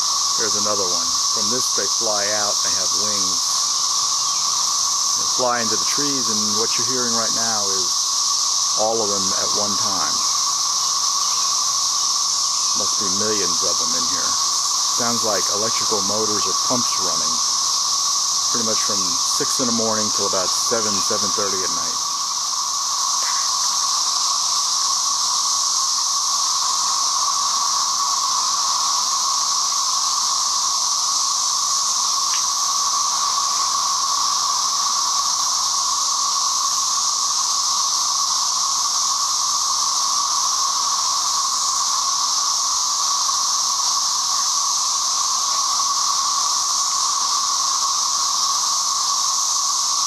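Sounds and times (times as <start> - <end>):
cicadas droning: 0.0 - 50.0.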